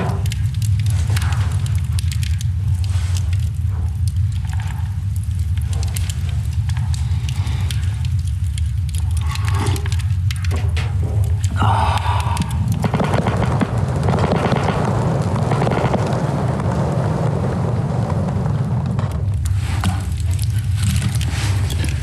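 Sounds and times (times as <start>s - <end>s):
low rumble: 0.0s - 22.0s
sharp crackles and clicks: 0.0s - 22.0s.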